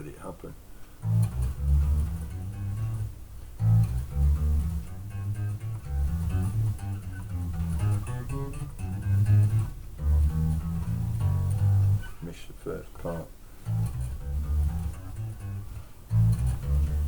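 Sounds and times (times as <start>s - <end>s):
plucked electric bass notes: 1.0s - 12.2s, 13.6s - 17.0s.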